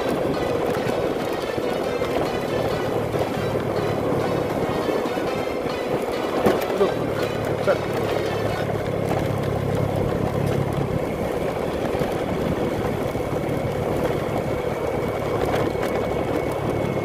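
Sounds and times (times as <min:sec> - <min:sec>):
motorcycle engine running: 0:00.0 - 0:17.0
road noise rushing: 0:00.0 - 0:17.0.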